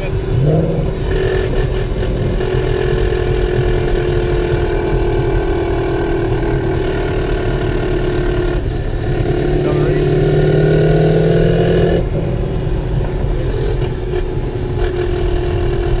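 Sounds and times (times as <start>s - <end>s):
engine and road noise: 0.0s - 16.0s.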